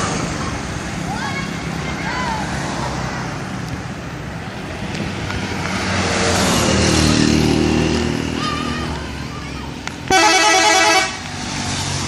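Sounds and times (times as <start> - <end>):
road traffic: 0.0 - 12.0
vehicle engine approaching: 0.0 - 12.0.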